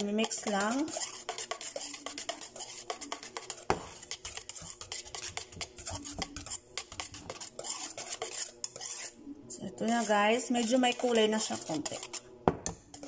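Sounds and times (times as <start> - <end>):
whisk beating in metal bowl: 0.0 - 13.0
whisk knocking bowl: 0.0 - 13.0.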